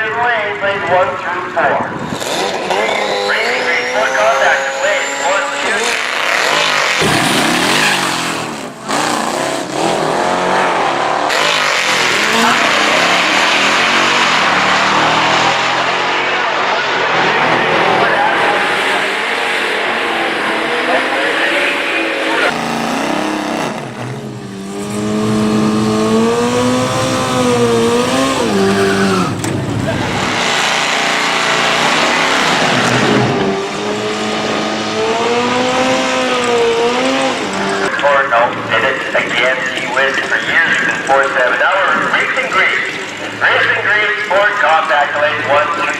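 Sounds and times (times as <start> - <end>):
car engines revving hard: 0.5 - 45.9.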